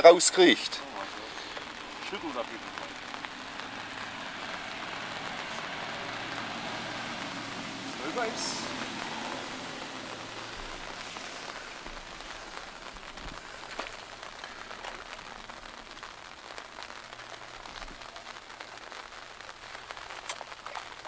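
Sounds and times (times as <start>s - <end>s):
light rain on river: 0.0s - 21.0s.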